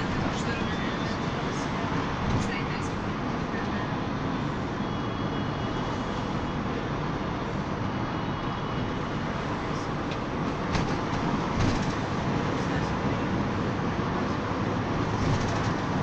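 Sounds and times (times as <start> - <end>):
engine and road noise: 0.0 - 16.0.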